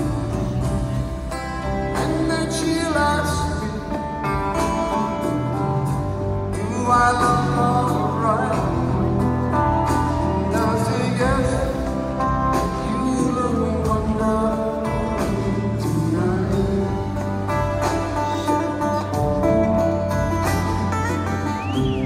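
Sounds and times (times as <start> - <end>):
live rock band playing: 0.0 - 22.0
man singing lead vocals: 1.8 - 22.0.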